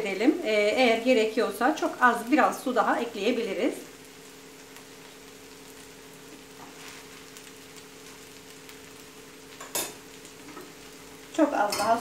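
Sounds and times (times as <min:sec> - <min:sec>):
faint steady hum: 0:00.0 - 0:12.0
noodles sizzling in a pan: 0:00.0 - 0:12.0.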